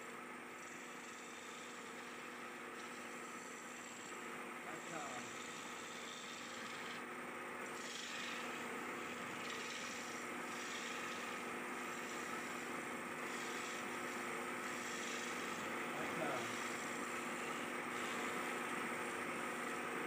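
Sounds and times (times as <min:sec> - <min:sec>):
lathe motor hum: 0:00.0 - 0:20.0
turning tool scraping spinning wood: 0:00.6 - 0:07.0, 0:07.6 - 0:20.0.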